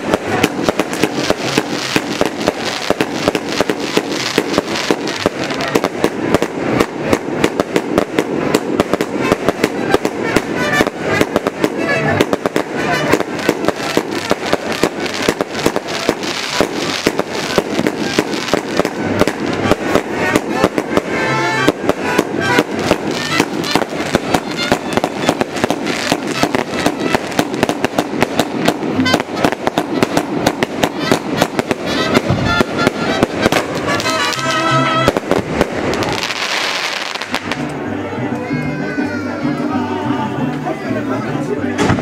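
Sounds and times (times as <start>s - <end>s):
firecrackers crackling and popping: 0.0s - 38.5s.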